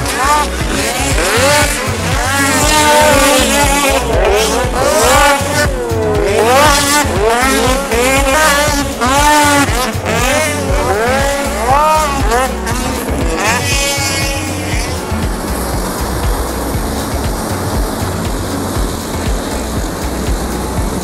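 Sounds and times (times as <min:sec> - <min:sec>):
snowmobile engines revving: 0:00.0 - 0:21.0.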